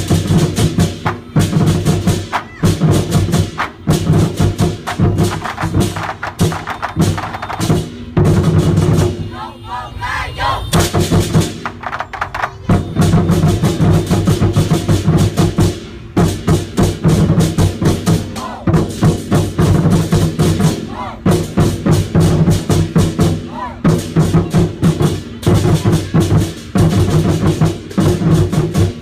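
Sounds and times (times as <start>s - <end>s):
drums and cymbals playing fast: 0.0s - 9.5s, 10.2s - 29.0s.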